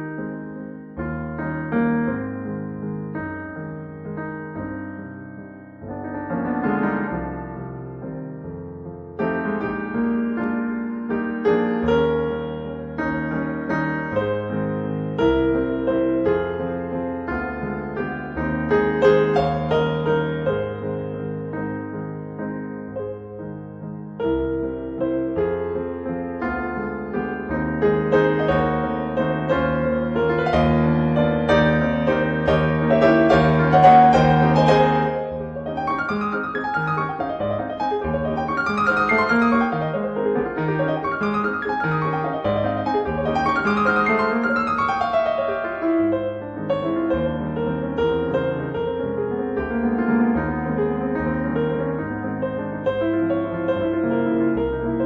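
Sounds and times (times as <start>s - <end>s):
slow piano music: 0.0s - 55.0s.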